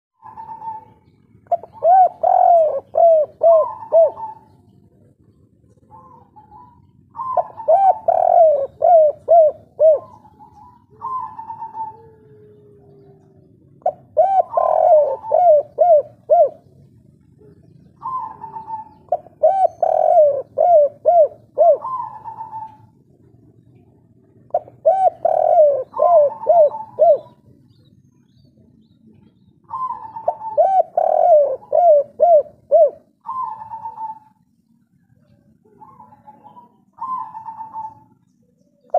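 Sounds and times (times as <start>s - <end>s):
dove cooing: 0.2s - 38.9s.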